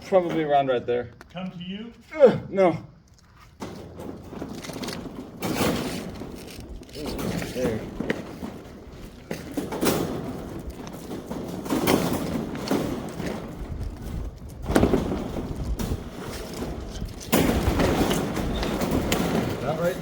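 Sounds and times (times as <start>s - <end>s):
building materials thumping and scraping: 0.0s - 2.1s, 2.9s - 20.0s.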